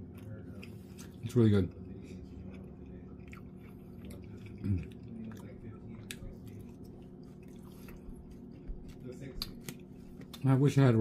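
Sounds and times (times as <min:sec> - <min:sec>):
wet chewing sounds: 0:00.0 - 0:10.6.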